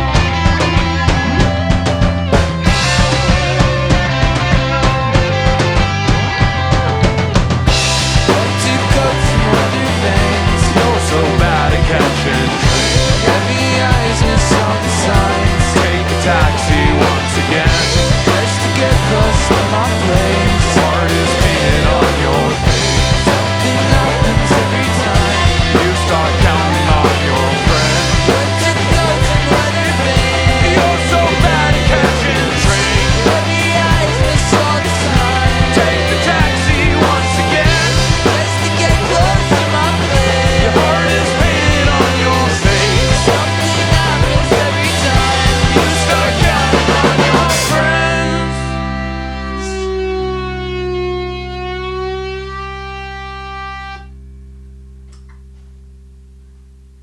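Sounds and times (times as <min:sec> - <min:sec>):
drum kit steady beat: 0:00.0 - 0:48.4
rock band playing live: 0:00.0 - 0:54.1.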